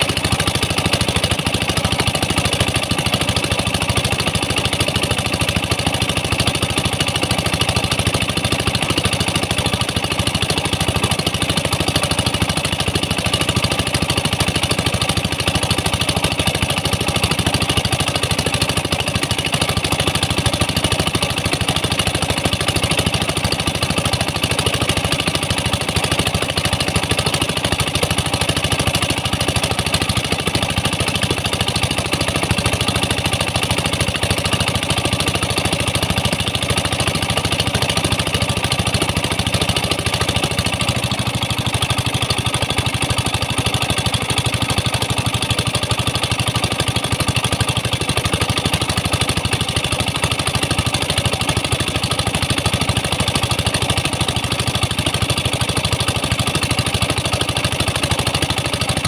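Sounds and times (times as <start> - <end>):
pump engine running: 0.0 - 59.0.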